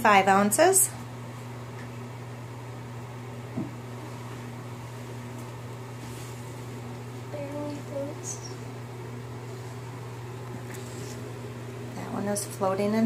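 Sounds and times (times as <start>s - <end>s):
low appliance hum: 0.0s - 13.0s.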